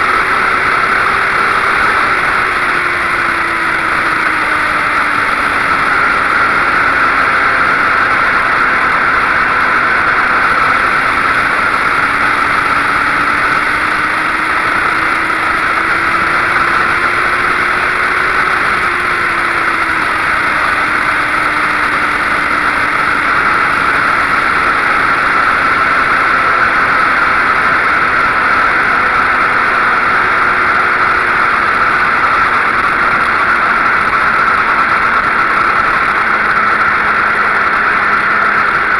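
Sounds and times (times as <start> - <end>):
motorcycle engine humming: 0.0 - 38.9.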